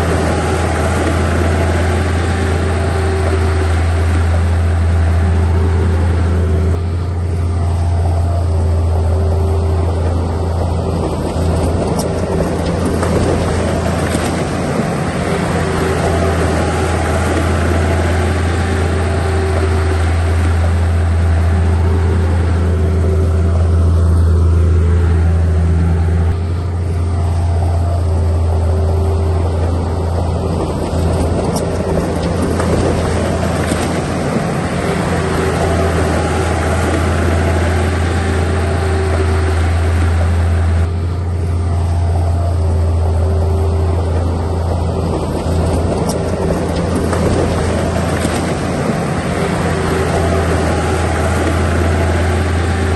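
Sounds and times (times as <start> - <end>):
heavy diesel engine droning: 0.0 - 52.9.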